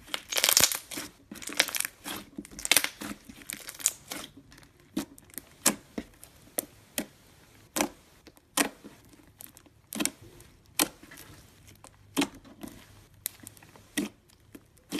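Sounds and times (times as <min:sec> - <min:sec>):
slime pressed and poked: 0:00.0 - 0:14.9.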